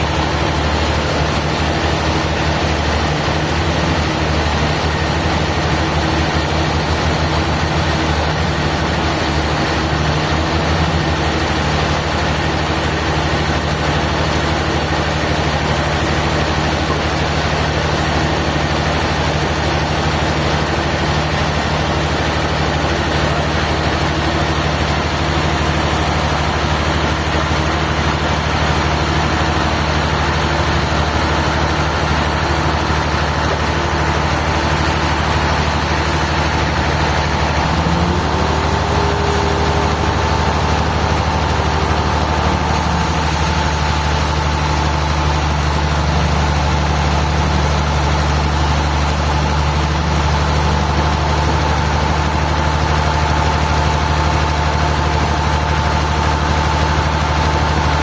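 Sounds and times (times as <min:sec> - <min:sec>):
heavy engine running: 0:00.0 - 0:58.0.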